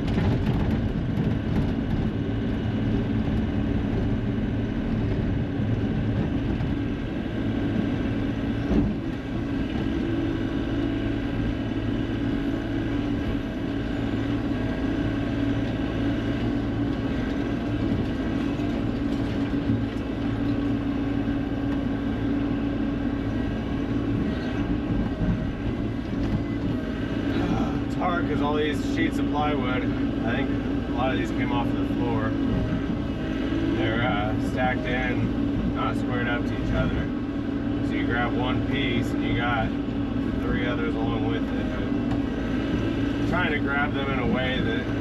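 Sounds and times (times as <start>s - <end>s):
heavy machine engine running: 0.0s - 45.0s.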